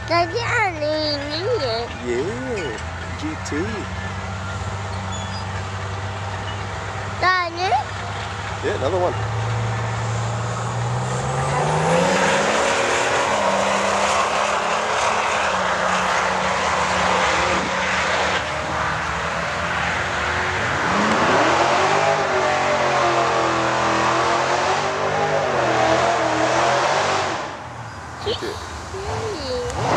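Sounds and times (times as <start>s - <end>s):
drag cars accelerating: 0.0s - 29.9s.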